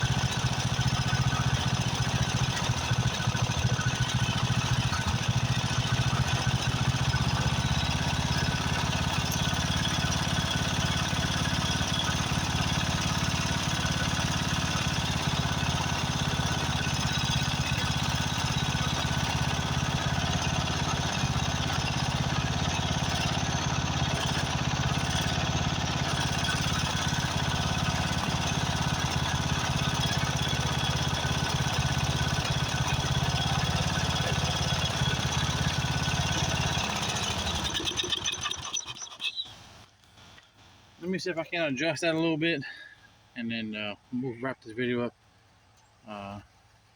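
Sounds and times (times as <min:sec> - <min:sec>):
riding mower engine running: 0:00.0 - 0:46.9.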